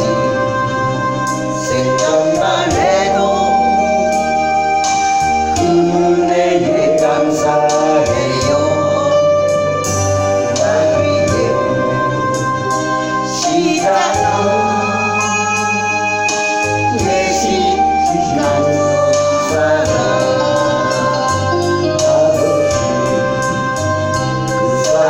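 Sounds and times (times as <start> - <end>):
organ chords: 0.0 - 25.0
voices singing: 0.0 - 25.0.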